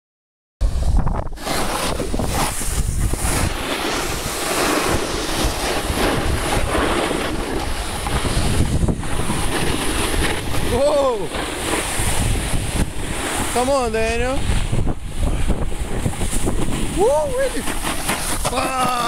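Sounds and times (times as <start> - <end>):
snowboards sliding over snow: 0.6 - 19.0
wind buffeting microphone: 0.6 - 19.0.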